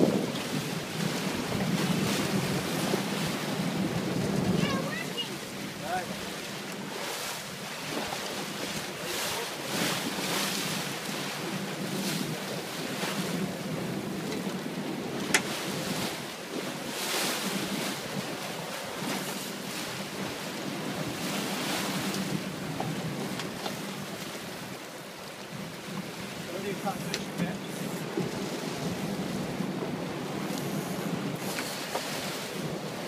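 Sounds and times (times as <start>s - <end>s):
boat engine humming: 0.0s - 33.0s
water rushing and splashing: 0.0s - 33.0s
wind buffeting microphone: 0.0s - 33.0s.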